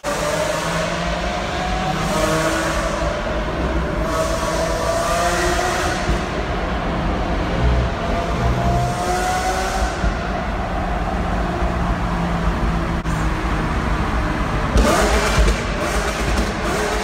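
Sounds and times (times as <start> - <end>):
car engine in tunnel: 0.0 - 17.0.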